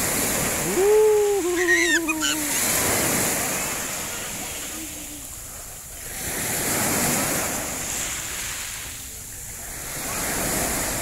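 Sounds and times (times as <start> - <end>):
small waves washing up shore: 0.0 - 11.0.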